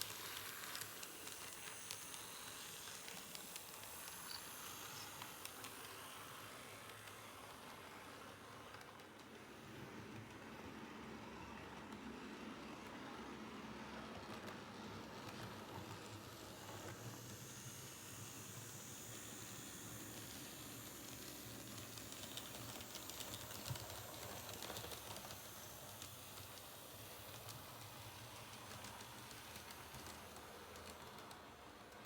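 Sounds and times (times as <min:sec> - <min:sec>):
model train motor hum: 0:00.0 - 0:10.2, 0:13.9 - 0:32.0.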